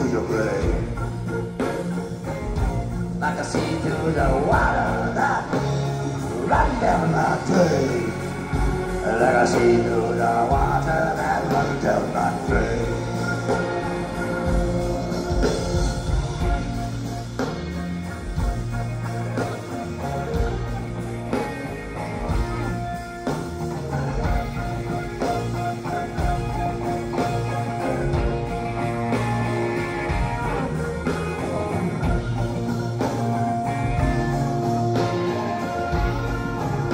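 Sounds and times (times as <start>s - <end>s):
live rock band playing: 0.0s - 36.9s.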